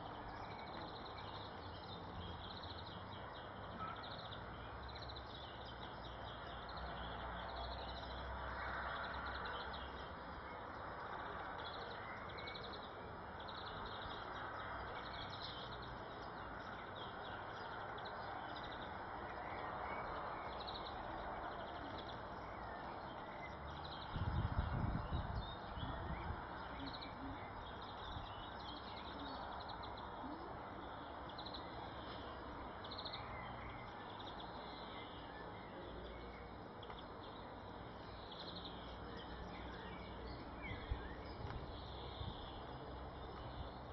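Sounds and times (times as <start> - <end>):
outdoor background hiss: 0.0 - 43.9
small birds chirping: 0.0 - 43.9.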